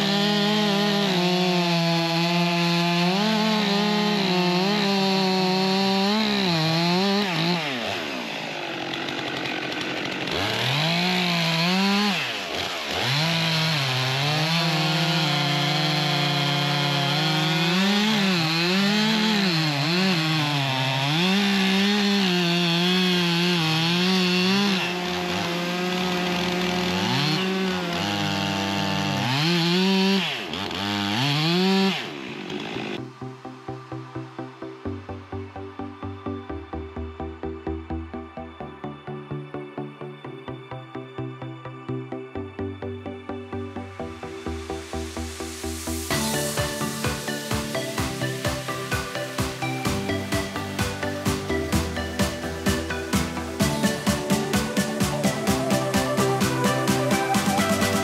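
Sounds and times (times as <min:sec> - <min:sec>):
chainsaws cutting logs: 0:00.0 - 0:38.2, 0:42.6 - 0:58.0.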